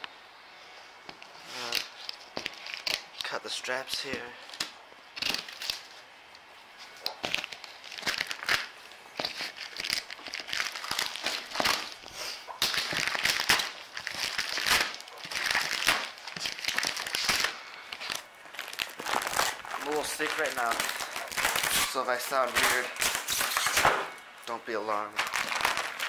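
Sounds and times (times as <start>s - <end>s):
plastic wrap crinkling and tearing: 1.5s - 6.1s, 6.8s - 26.0s.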